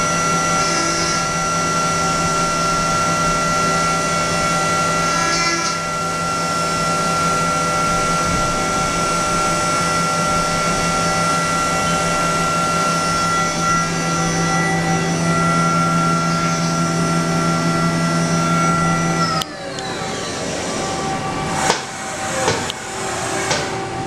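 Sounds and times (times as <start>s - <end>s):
machine spindle high-pitched whine: 0.0s - 24.0s.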